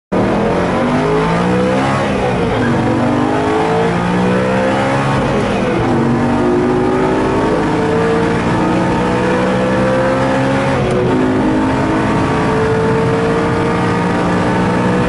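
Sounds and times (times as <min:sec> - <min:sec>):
car engine accelerating: 0:00.1 - 0:15.0.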